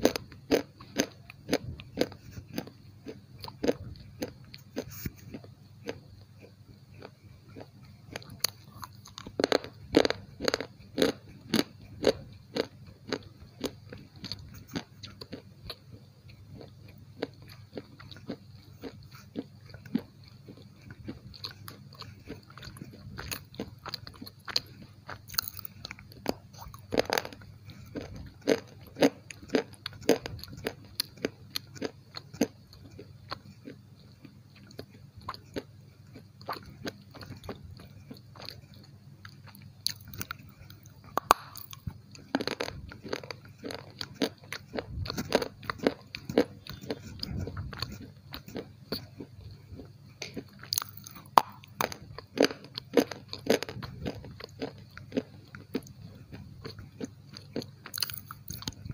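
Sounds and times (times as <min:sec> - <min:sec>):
crunching: 0:00.0 - 0:58.9.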